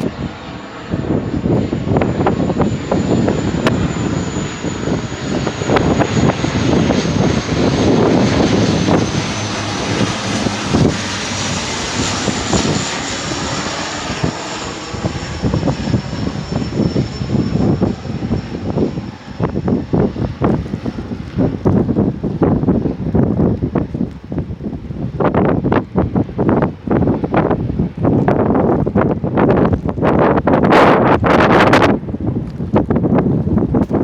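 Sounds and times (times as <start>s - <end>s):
turboprop plane passing: 0.0s - 34.0s
wind rumbling on microphone: 0.0s - 34.0s.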